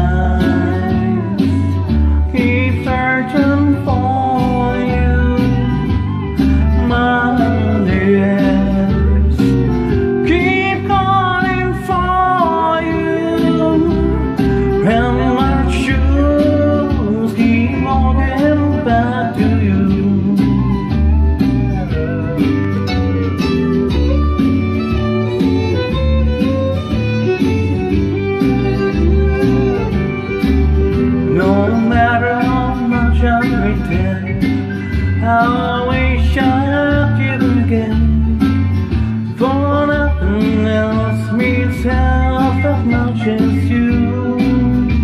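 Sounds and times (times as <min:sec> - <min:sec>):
man singing into a microphone: 0:00.0 - 0:22.4, 0:31.2 - 0:45.0
country backing track: 0:00.0 - 0:45.0.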